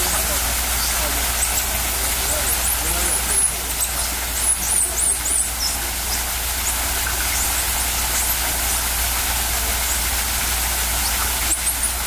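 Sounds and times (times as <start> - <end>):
low machinery hum with hiss: 0.0 - 12.0.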